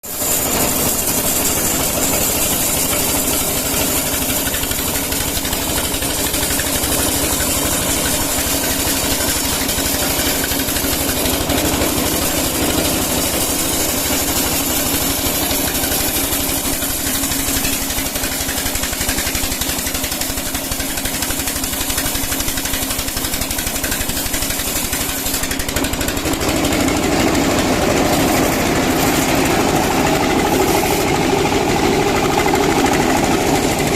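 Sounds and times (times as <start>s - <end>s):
sawmill machinery pulsing: 0.0s - 33.9s.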